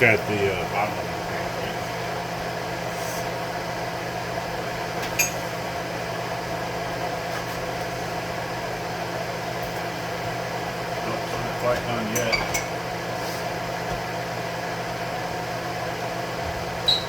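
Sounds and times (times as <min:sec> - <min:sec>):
range hood fan humming: 0:00.0 - 0:17.0.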